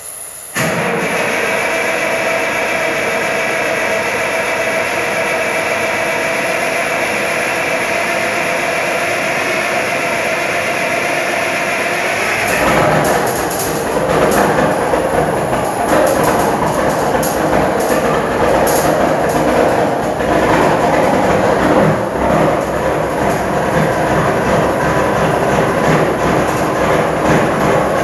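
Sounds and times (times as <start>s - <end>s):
diesel engine idling unevenly: 0.7s - 28.0s.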